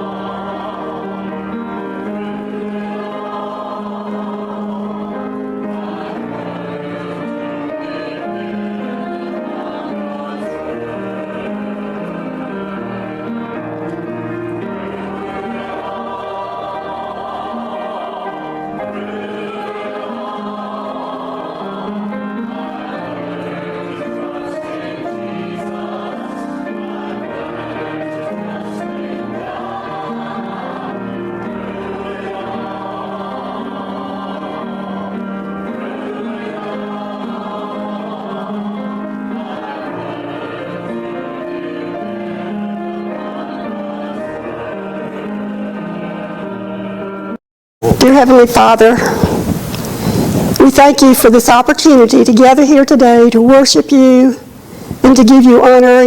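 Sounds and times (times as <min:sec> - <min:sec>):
choir singing sustained chords: 0:00.0 - 0:56.0.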